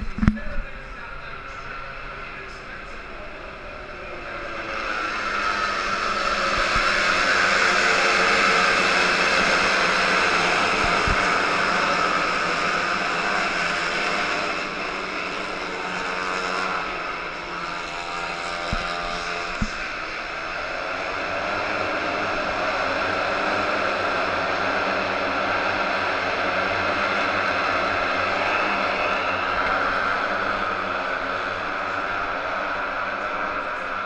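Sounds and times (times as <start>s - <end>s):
racing motorcycles passing at speed: 1.4s - 34.0s.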